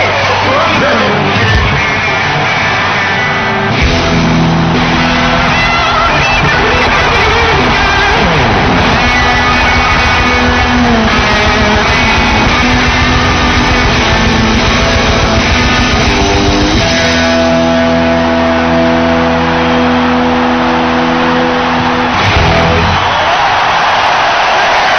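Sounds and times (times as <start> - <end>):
live rock band playing: 0.0 - 23.4
distorted electric guitar: 0.0 - 23.6.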